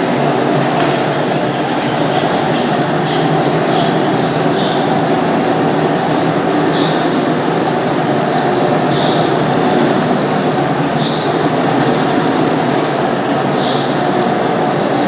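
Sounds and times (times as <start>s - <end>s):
floor polishing machine running: 0.0s - 15.0s.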